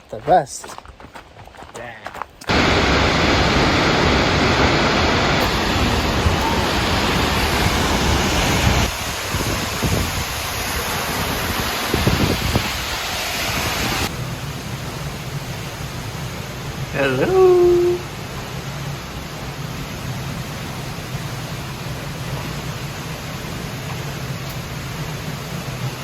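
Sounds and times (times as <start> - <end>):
waterfall rushing: 2.5 - 26.0.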